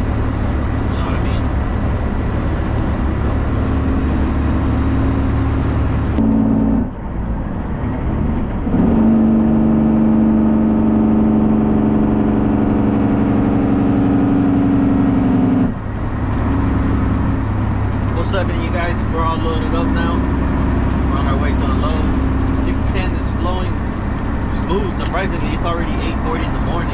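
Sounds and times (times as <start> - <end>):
truck diesel exhaust drone: 0.0 - 26.9.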